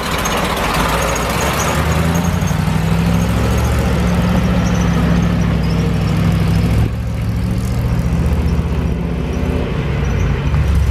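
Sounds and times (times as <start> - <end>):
truck engine running: 0.0 - 10.9.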